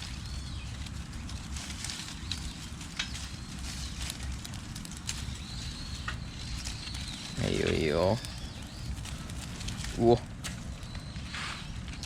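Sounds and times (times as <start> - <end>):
leaf fire crackling and popping: 0.0 - 12.0
steady low rumble: 0.0 - 12.0.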